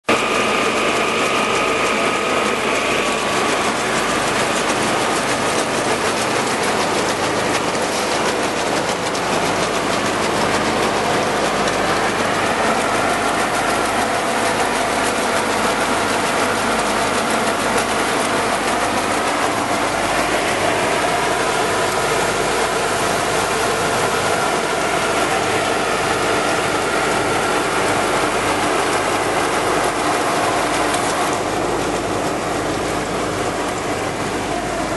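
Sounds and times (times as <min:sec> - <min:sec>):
auger mechanical rattle: 0:00.1 - 0:34.9
grain pouring: 0:00.1 - 0:34.9.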